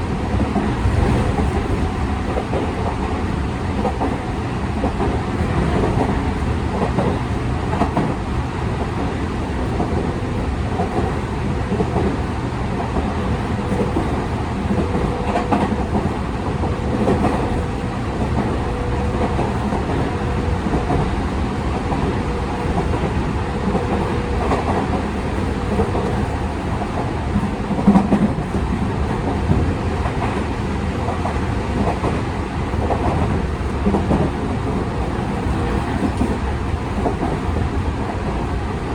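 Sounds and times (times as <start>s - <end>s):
train wheels clacking over track: 0.0s - 38.9s.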